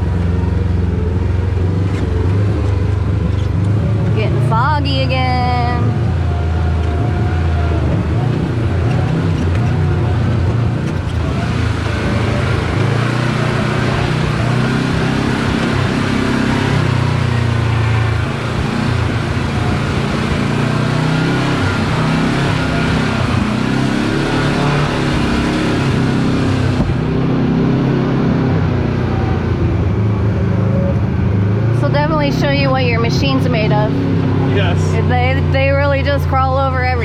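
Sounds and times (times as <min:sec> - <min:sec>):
utility vehicle engine running: 0:00.0 - 0:37.0.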